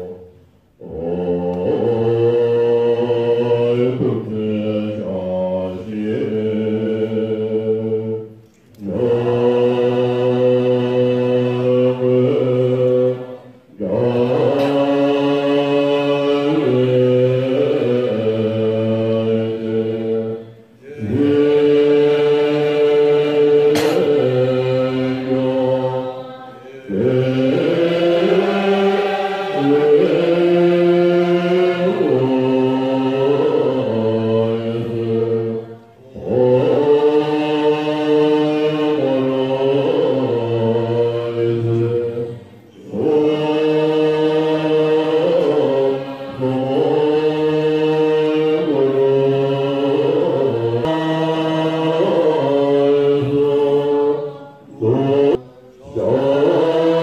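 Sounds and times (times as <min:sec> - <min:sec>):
monks chanting in unison: 0:00.0 - 0:57.0.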